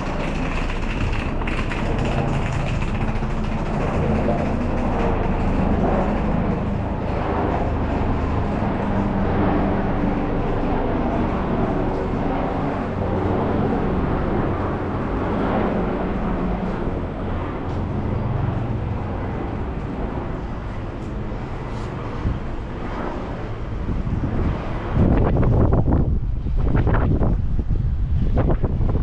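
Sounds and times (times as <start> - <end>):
engine running with low hum: 0.0 - 29.0
wind buffeting microphone: 0.0 - 29.0.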